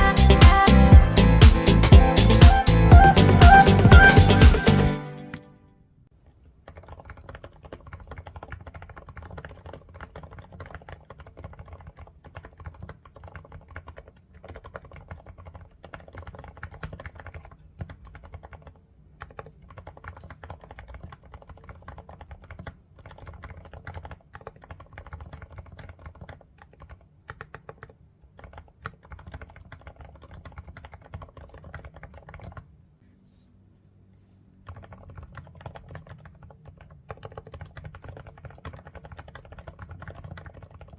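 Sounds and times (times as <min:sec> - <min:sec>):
quiet mechanical keyboard typing: 0:06.2 - 0:32.8, 0:34.5 - 0:40.9.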